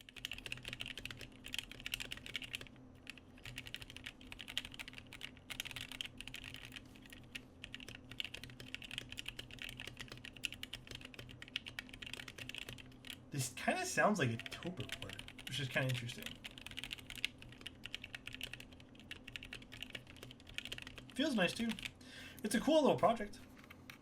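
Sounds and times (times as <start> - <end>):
mechanical keyboard typing: 0.0 - 13.2, 14.4 - 21.9.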